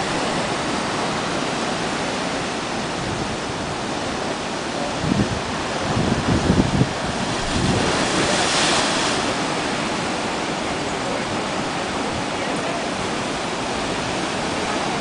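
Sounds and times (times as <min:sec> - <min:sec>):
surf surging into rocks: 0:00.0 - 0:15.0.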